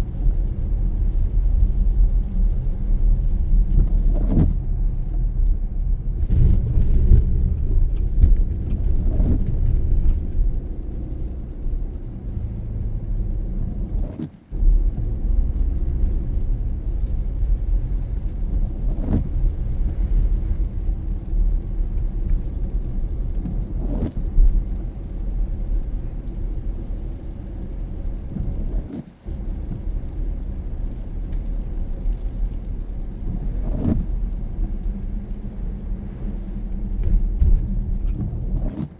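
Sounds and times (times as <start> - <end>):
car tyres and engine rumbling: 0.0 - 38.9.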